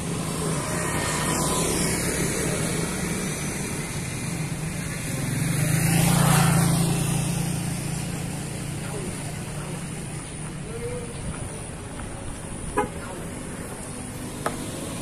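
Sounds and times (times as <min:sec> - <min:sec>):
motor scooters passing: 0:00.0 - 0:15.0.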